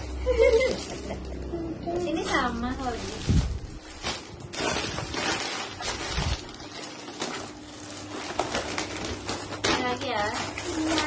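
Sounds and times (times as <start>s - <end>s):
paper and plastic rustling: 0.0s - 11.0s.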